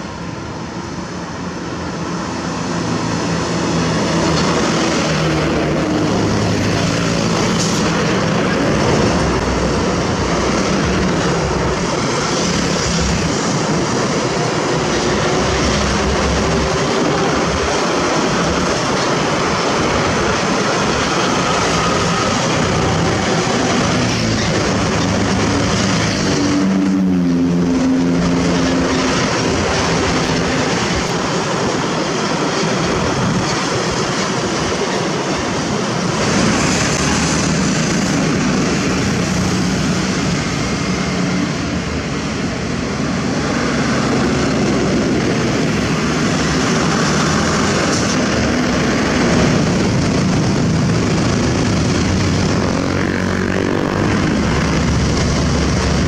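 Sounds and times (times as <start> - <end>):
road and wind noise: 0.0 - 56.0
motorcycles passing: 2.4 - 56.0.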